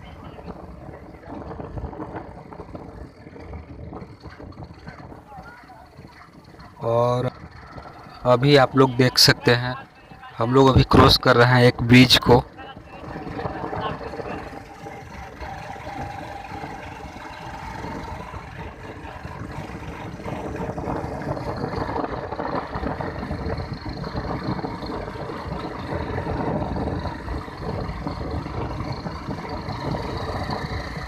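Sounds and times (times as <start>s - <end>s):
motorcycle engine hum: 0.0s - 31.0s
wind rumble on microphone: 0.0s - 31.0s.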